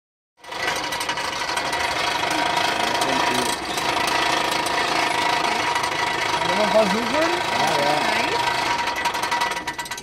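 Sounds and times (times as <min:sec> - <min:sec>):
forge blower whine: 0:00.4 - 0:10.0.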